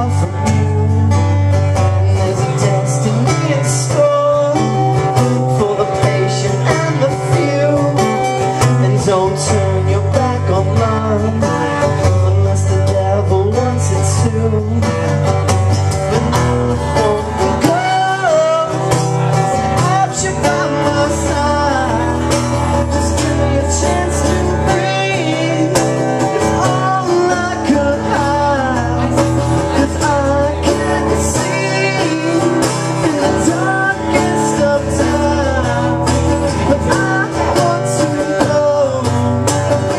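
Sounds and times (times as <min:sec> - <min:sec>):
acoustic guitar strumming: 0:00.0 - 0:39.9
man singing: 0:00.0 - 0:39.9.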